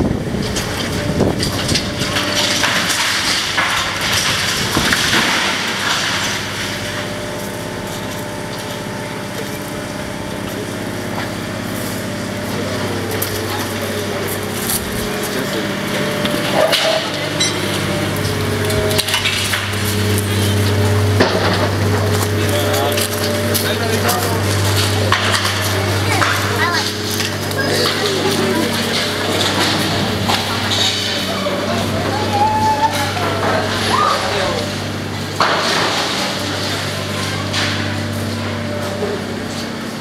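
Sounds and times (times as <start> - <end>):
engine humming: 0.0 - 40.0
excavator crunching concrete: 0.0 - 40.0
debris crackling and clattering: 0.2 - 40.0.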